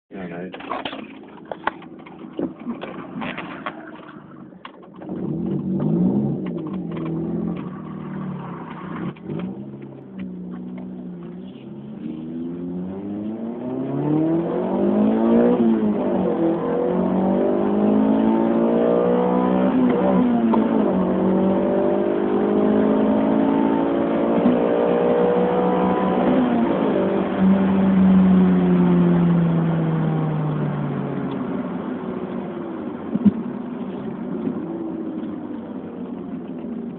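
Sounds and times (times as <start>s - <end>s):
car engine accelerating through gears: 1.6s - 36.9s.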